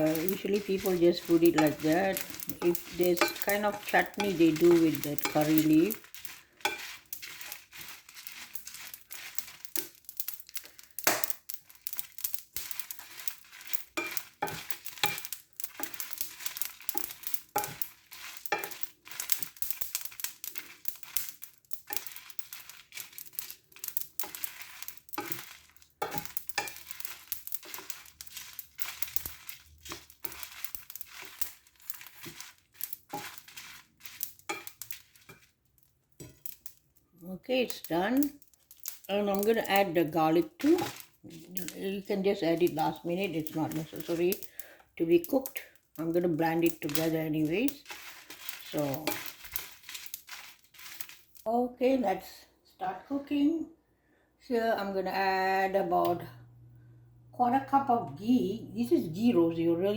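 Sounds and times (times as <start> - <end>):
spatula scraping spices in pan: 0.0 - 36.8, 37.6 - 51.4
spices crackling as they roast: 0.0 - 53.4, 54.8 - 59.9.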